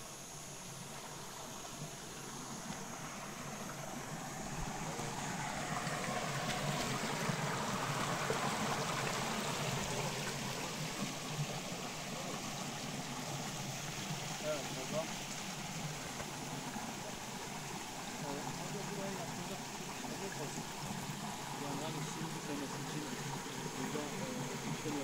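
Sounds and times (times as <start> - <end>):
spring water running: 0.0 - 25.0.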